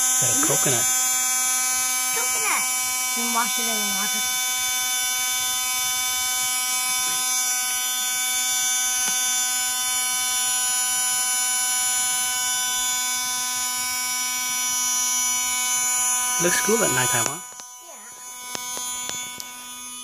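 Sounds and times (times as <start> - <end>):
electric water pump buzzing: 0.0 - 20.0.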